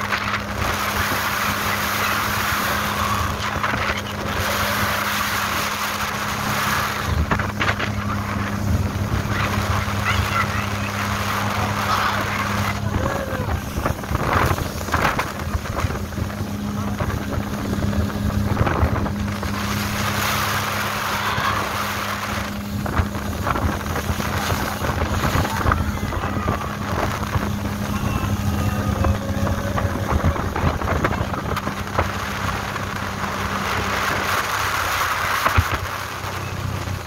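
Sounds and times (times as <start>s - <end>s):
motorboat engine humming: 0.0s - 37.0s
water rushing past hull: 0.0s - 37.0s
wind on microphone: 0.0s - 37.0s.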